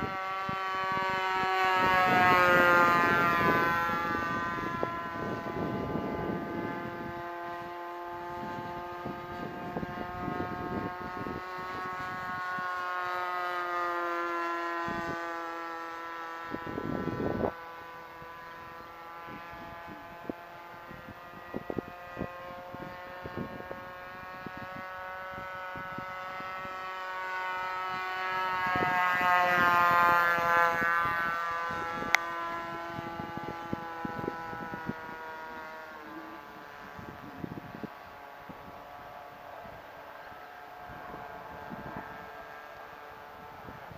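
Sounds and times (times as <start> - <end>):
model plane engine buzzing: 0.0 - 43.9
wind buffeting microphone: 0.0 - 43.9.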